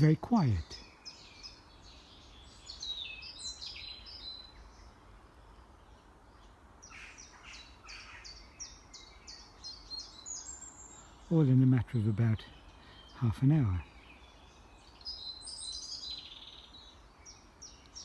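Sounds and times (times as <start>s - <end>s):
songbirds singing: 0.0s - 18.0s.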